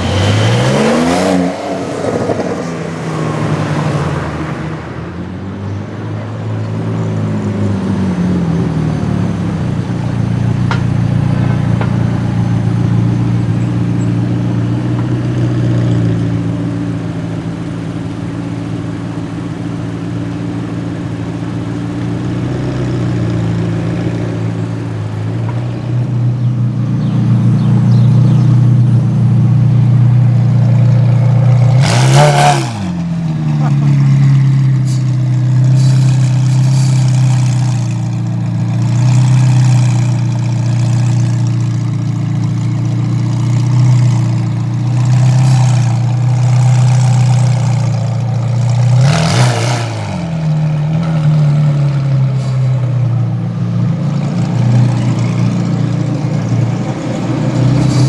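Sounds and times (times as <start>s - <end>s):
vehicle passing by: 0.0s - 43.2s, 44.0s - 58.0s
car engines in traffic: 0.0s - 58.0s.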